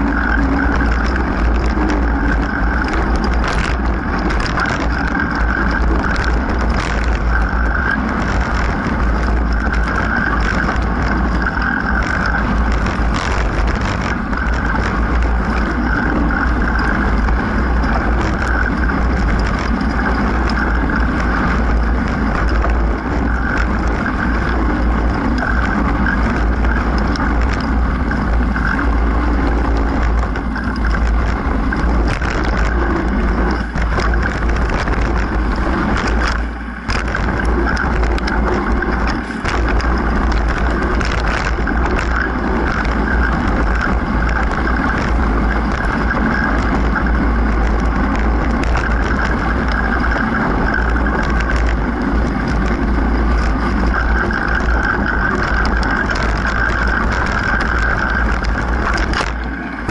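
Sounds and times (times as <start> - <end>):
bike knocks and rattles: 0.0 - 59.9
tyre noise on dirt: 0.0 - 59.9
wind buffeting microphone: 0.0 - 59.9.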